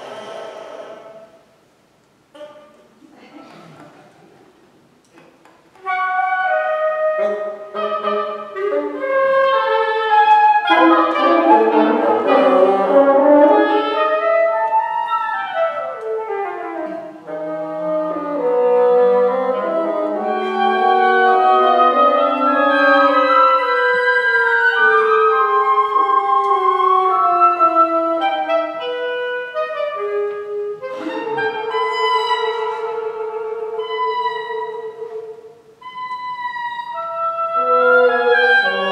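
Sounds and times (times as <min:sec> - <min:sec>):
woodwind quintet chamber music: 0:05.8 - 0:38.9.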